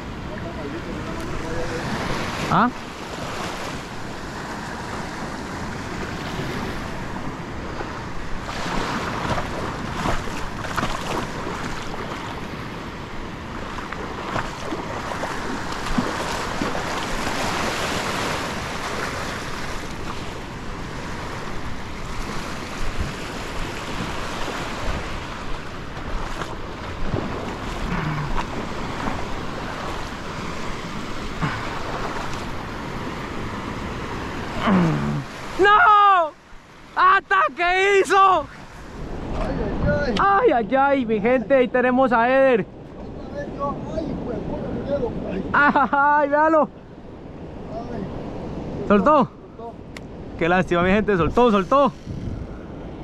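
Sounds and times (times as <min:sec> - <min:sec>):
wind rumbling on microphone: 0:00.0 - 0:35.6, 0:38.5 - 0:41.1, 0:46.8 - 0:53.0
small waves breaking: 0:00.0 - 0:53.0.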